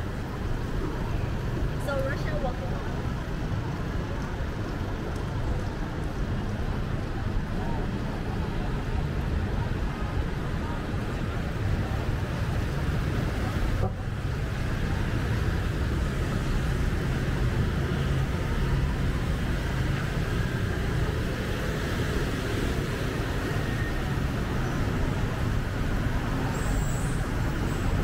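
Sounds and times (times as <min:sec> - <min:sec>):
passing vehicles: 0:00.0 - 0:28.0.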